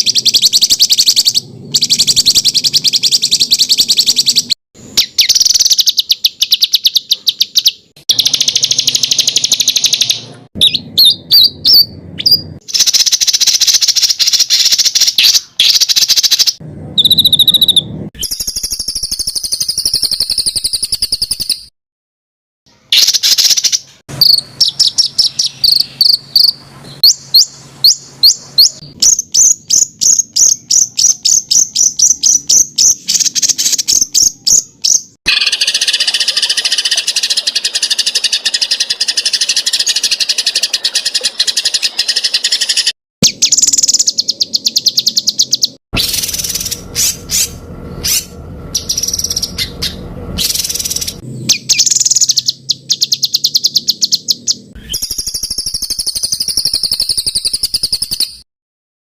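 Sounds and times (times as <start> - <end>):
buzzy bird trill: 0.0 - 21.7, 22.7 - 58.4.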